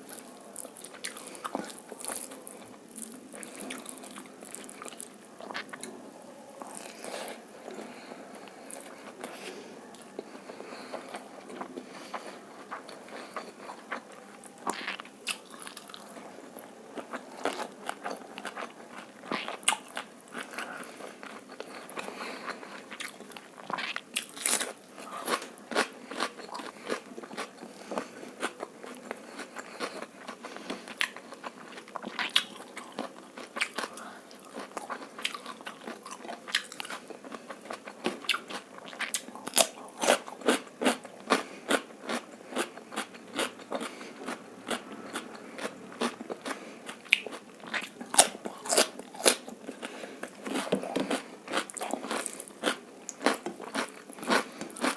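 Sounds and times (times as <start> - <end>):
chewing food with crunches: 0.0 - 54.9.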